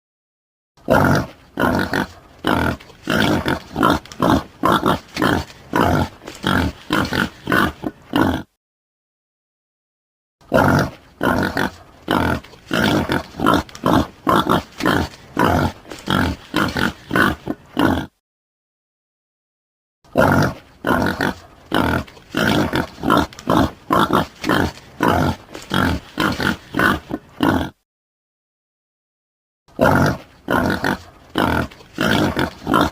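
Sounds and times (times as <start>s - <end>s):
boar grunting: 0.8s - 8.6s, 10.4s - 18.2s, 20.1s - 27.8s, 29.7s - 32.9s.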